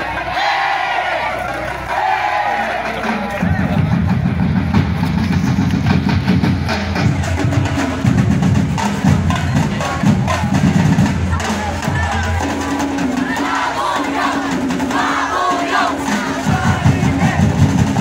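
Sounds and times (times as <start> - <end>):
voices shouting: 0.0 - 4.4, 7.0 - 18.0
drums beating a rhythm: 1.3 - 18.0.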